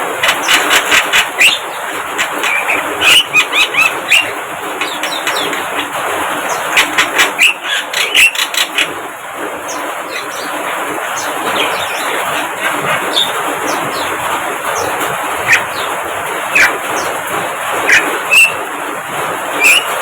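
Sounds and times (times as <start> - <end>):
birds calling and chattering: 0.0 - 20.0.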